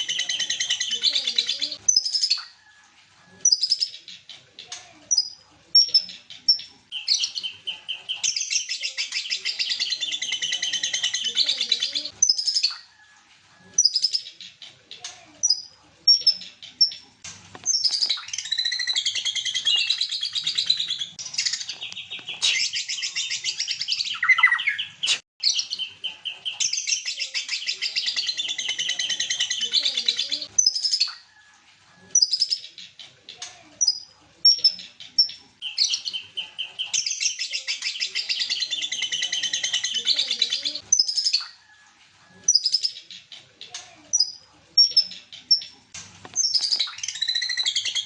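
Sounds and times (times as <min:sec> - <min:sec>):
high bird chirps: 0:00.0 - 0:02.6, 0:03.3 - 0:04.2, 0:05.1 - 0:33.0, 0:33.8 - 0:43.3, 0:44.1 - 0:45.8, 0:46.4 - 0:48.0
bird warbling song: 0:00.0 - 0:02.8, 0:03.4 - 0:45.8, 0:46.4 - 0:48.0.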